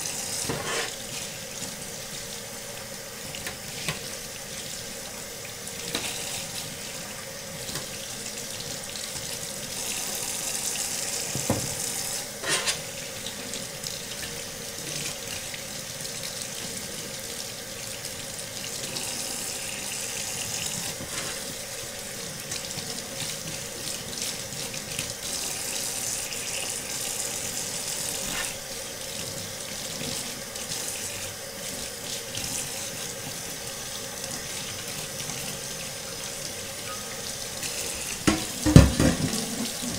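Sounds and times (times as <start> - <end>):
faucet running into metal sink: 0.0 - 39.9.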